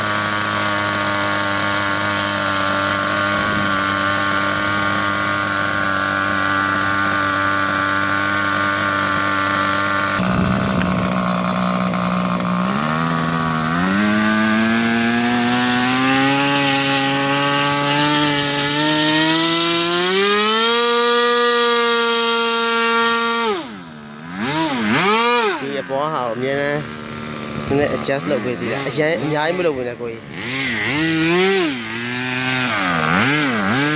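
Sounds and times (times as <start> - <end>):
two-stroke engine running: 0.0 - 33.9.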